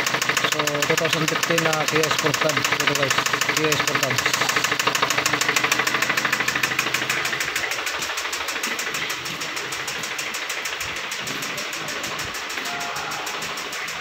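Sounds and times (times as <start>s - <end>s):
car engine idling with knock: 0.0s - 14.0s.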